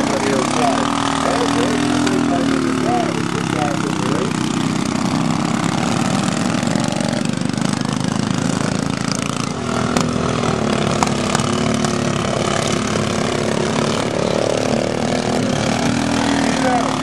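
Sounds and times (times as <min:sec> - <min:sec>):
lawn tractor engines droning: 0:00.0 - 0:17.0.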